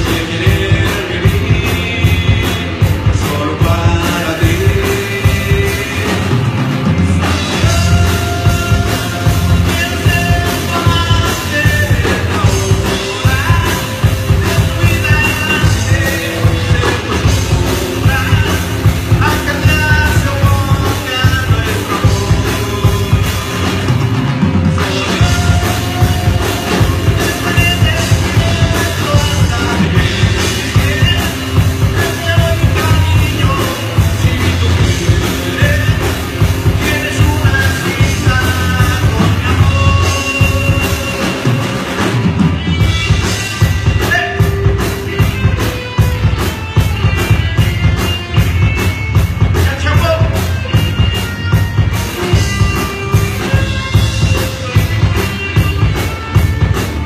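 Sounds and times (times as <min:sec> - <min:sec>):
man singing: 0:00.0 - 0:45.6, 0:49.4 - 0:51.0
live rock band playing: 0:00.0 - 0:57.0
steady evenly spaced beat: 0:00.0 - 0:57.0.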